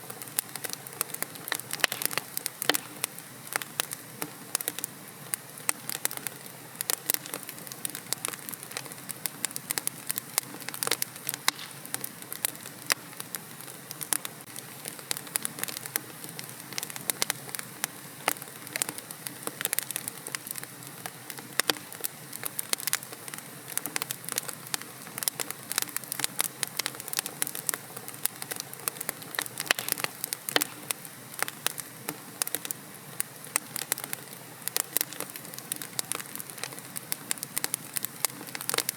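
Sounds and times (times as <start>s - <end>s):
hiss of burning: 0.0s - 38.9s
wood fire crackling: 0.0s - 38.9s.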